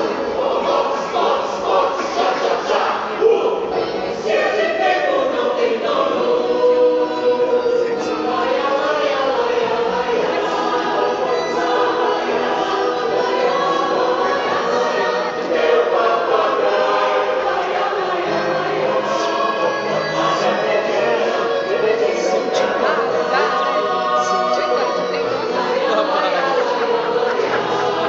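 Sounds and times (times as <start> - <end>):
choir singing: 0.0 - 28.0.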